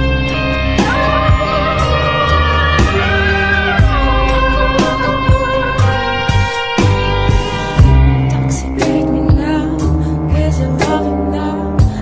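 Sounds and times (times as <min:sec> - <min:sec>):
instrumental music with beat: 0:00.0 - 0:11.2, 0:11.8 - 0:12.0.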